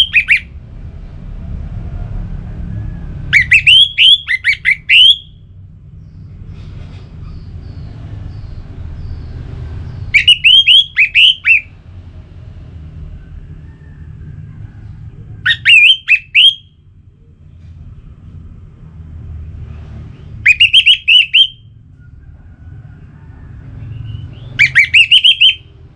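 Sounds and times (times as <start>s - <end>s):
low steady rumble: 0.0s - 25.9s.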